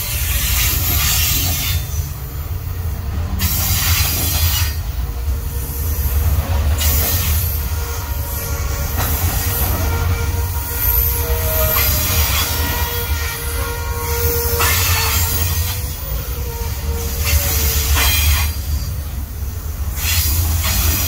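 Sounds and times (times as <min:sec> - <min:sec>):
train wheels rumbling on rail: 0:00.0 - 0:21.0
high wheel squeal: 0:03.4 - 0:21.0.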